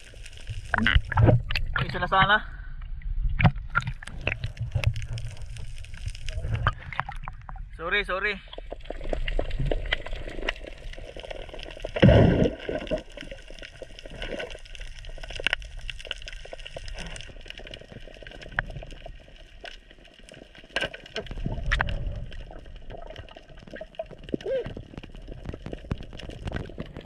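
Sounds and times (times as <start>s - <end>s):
underwater gurgling and sloshing: 0.0s - 27.0s.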